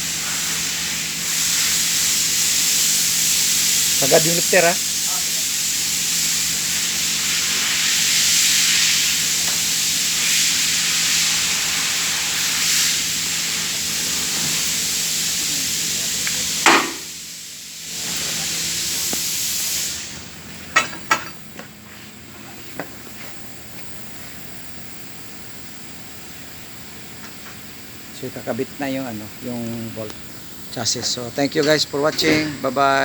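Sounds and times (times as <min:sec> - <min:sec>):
hydraulic lift hissing: 0:00.0 - 0:22.8, 0:26.9 - 0:33.0.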